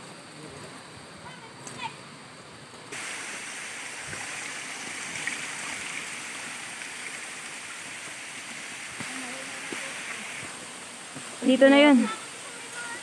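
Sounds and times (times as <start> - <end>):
stream water rushing: 2.0 - 13.0.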